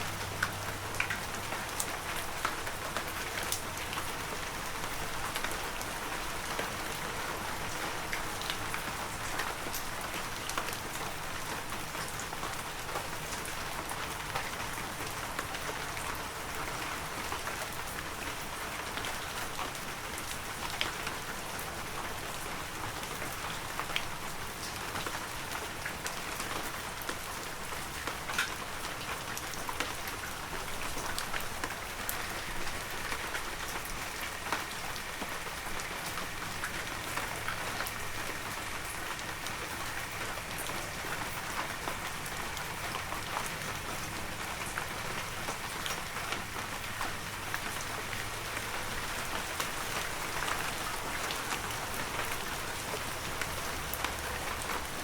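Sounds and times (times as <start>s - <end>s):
heavy rain falling: 0.0s - 55.0s
raindrops ticking on surfaces: 0.0s - 55.0s.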